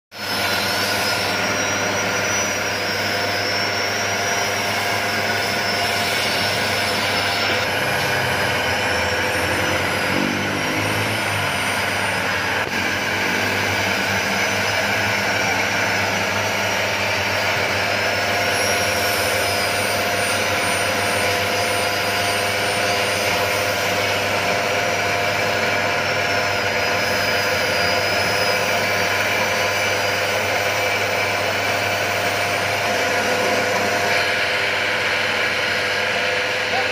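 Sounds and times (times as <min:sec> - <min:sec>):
coffee grinder whining: 0:00.1 - 0:36.9.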